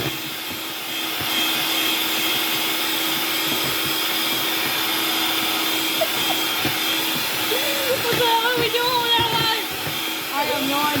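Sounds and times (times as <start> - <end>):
electric mixer whining: 0.0 - 11.0.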